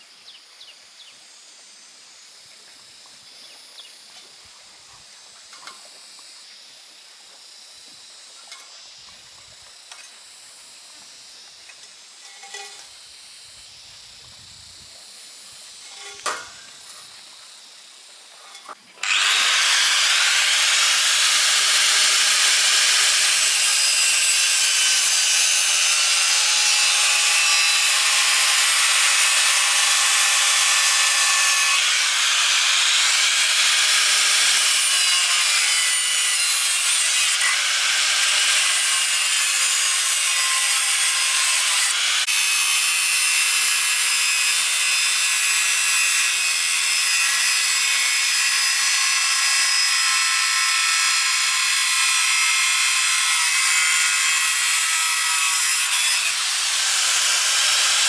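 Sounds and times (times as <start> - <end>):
angle grinder cutting metal: 8.1 - 13.8, 15.1 - 17.7, 18.3 - 58.0.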